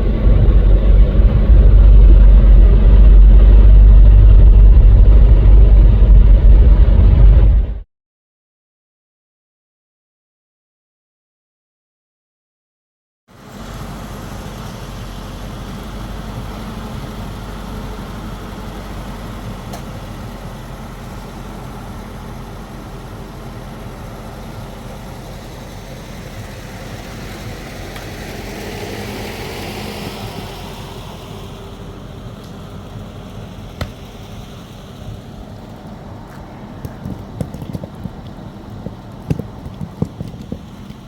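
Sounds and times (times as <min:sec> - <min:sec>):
motor engine running: 0:00.0 - 0:07.8, 0:13.4 - 0:41.0.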